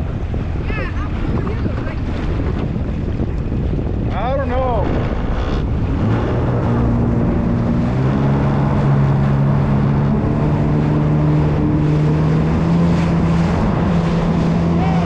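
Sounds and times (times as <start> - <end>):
jet ski engine running: 0.0 - 15.0
rushing wind and water: 0.0 - 15.0.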